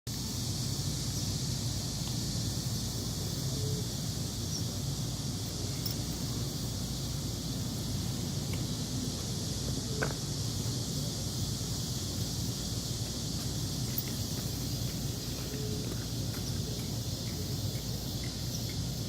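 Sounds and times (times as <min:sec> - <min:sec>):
cicadas singing: 0:00.1 - 0:19.0.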